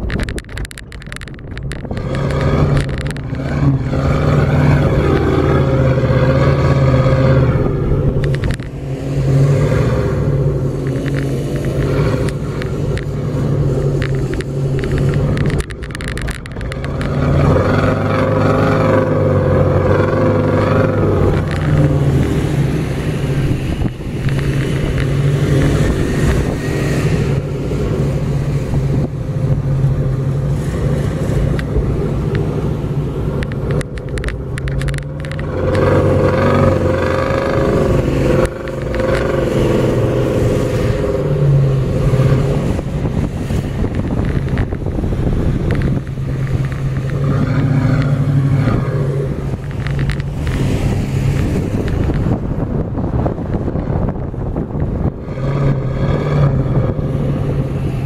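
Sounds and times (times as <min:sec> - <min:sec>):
suv engines revving: 0:00.0 - 0:58.0.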